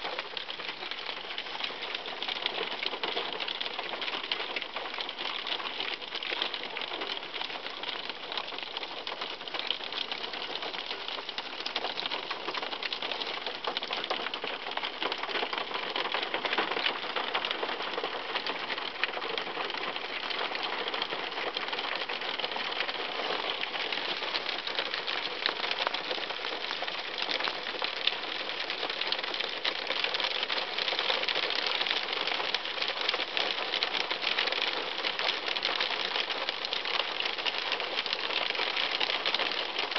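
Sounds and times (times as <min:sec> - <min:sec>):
hail hitting car roof: 0:00.0 - 0:39.9.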